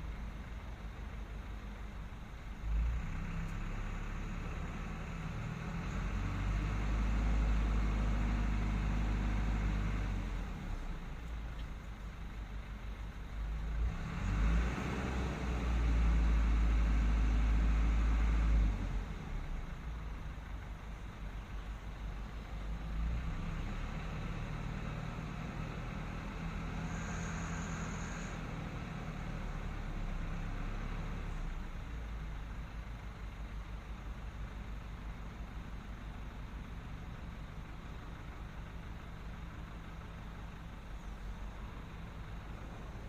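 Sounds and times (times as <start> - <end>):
diesel engine working under load: 0.0 - 43.0.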